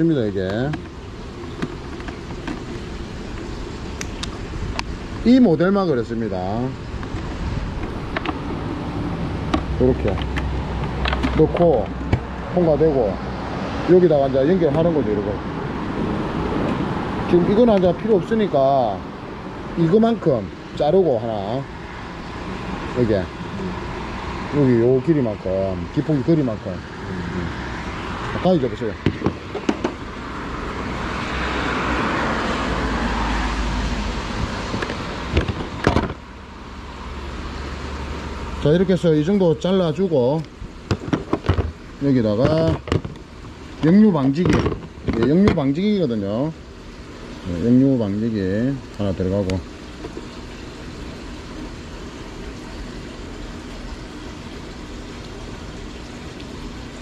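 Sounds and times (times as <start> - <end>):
low engine rumble: 0.0 - 57.0.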